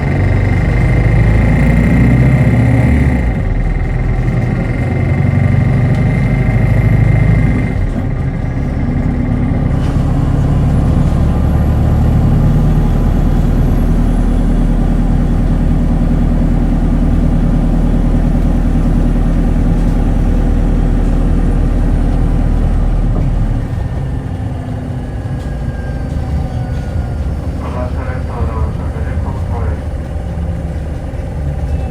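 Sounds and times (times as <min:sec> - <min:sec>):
bus engine and road noise: 0:00.0 - 0:31.9.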